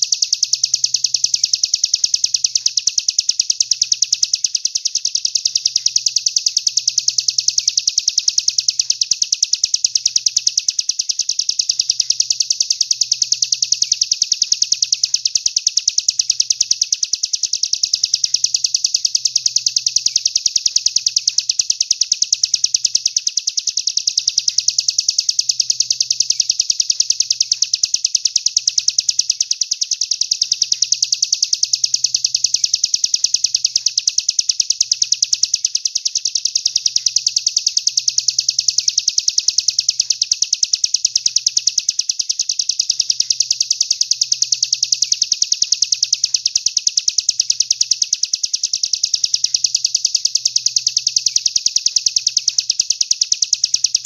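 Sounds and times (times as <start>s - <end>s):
songbird fast rattling trill: 0.0s - 54.0s.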